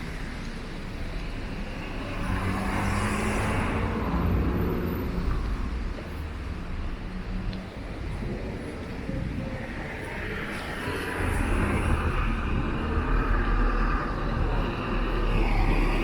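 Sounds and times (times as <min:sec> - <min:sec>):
street rumble: 0:00.0 - 0:16.0.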